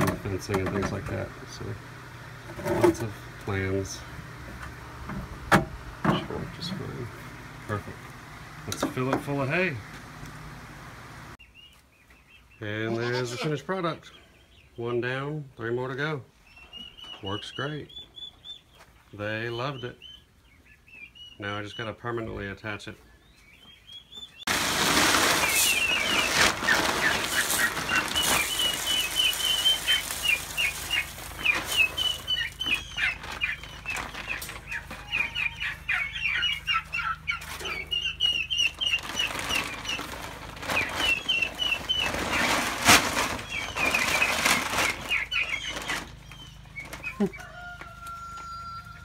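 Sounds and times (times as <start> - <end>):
chickens clucking and squawking: 0.0 - 10.3, 11.5 - 49.0.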